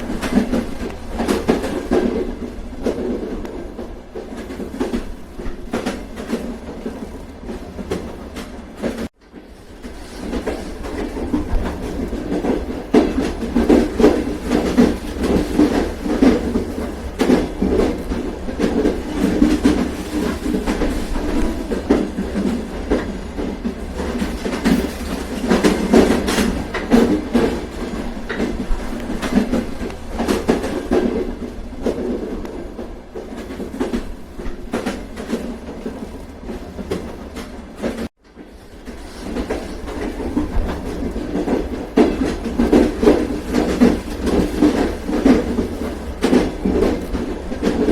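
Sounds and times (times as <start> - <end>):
train rumbling on track: 0.0 - 47.9
wheels clicking over rail joints: 0.0 - 47.9.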